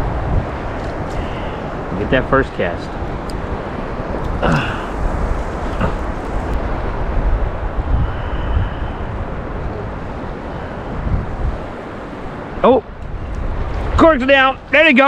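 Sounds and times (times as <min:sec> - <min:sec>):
gentle surf in shallow water: 0:00.0 - 0:15.0
wind buffeting the microphone: 0:00.0 - 0:15.0.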